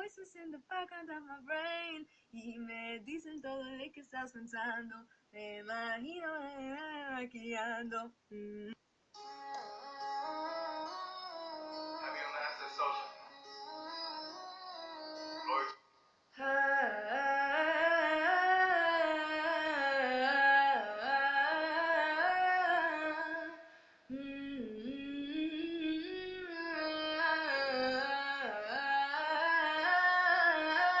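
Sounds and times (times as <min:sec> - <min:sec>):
woman singing unaccompanied: 0:00.0 - 0:12.1, 0:13.0 - 0:15.5, 0:16.4 - 0:31.0.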